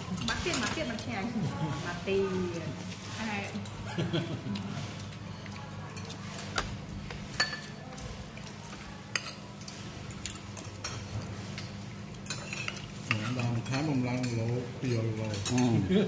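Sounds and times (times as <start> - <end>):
metal cutlery clinking on plates: 0.1 - 1.4, 2.9 - 16.0.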